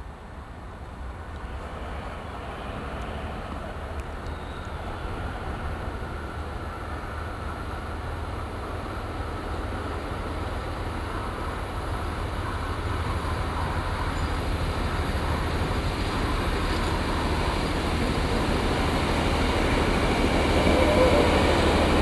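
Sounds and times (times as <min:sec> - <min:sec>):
rush of train noise: 0:00.0 - 0:22.0.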